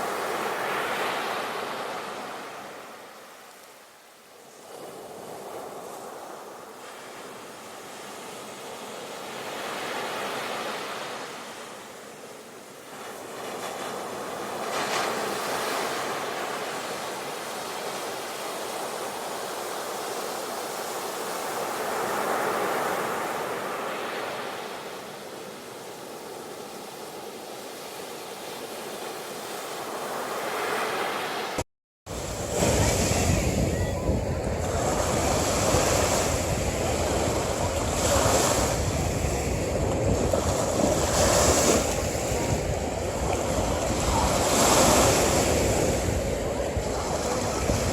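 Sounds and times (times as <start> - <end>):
sea waves breaking on shore: 0.0 - 3.6, 4.4 - 47.9.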